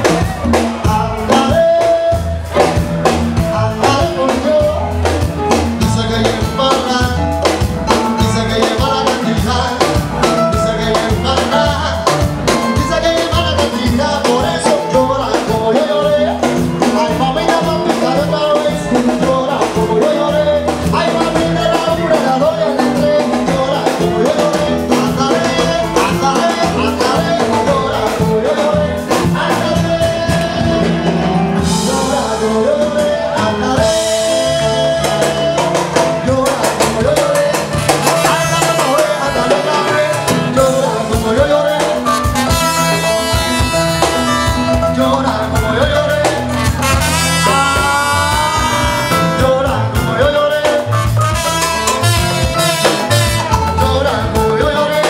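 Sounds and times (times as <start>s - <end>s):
hand and kit percussion: 0.0s - 55.0s
latin dance band playing: 0.0s - 55.0s
person singing: 0.0s - 55.0s
steady bass line: 0.0s - 55.0s.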